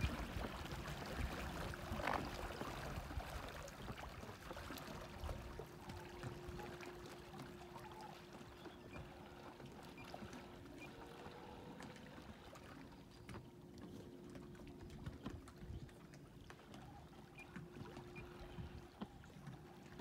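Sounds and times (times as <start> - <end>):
small waves lapping: 0.0 - 20.0.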